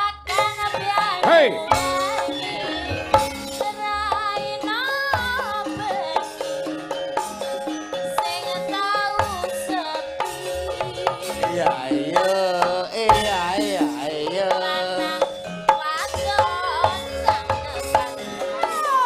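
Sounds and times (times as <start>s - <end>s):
person singing: 0.0s - 6.5s, 8.1s - 19.0s
gamelan music: 0.0s - 19.0s
hand-drum strokes: 0.3s - 19.0s.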